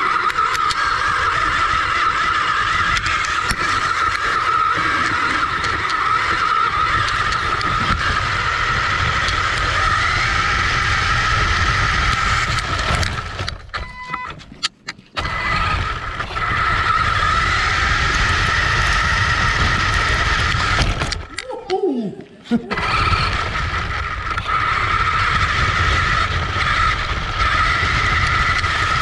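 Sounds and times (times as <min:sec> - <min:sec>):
tyres rumbling on rough ground: 0:00.0 - 0:21.4, 0:22.6 - 0:29.0
electric motor and gear whine: 0:00.0 - 0:29.0.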